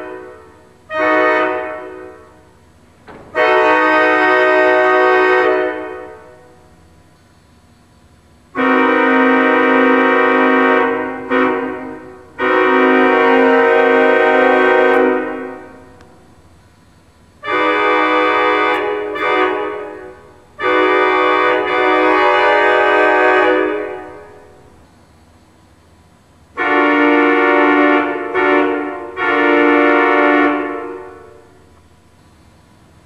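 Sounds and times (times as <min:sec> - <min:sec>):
pipe organ horn-like chords: 0:00.0 - 0:06.9, 0:08.5 - 0:16.3, 0:17.4 - 0:24.8, 0:26.5 - 0:31.8.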